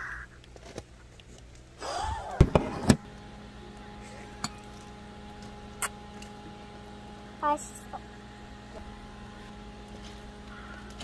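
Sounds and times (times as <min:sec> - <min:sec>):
electric fan motor hum: 0:01.2 - 0:11.0.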